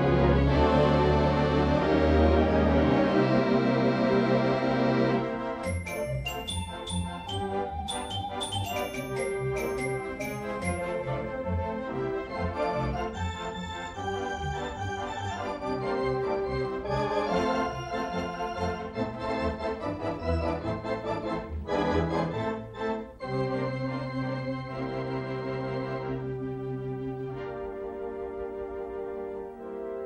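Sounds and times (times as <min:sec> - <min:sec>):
organ music: 0:00.0 - 0:30.0.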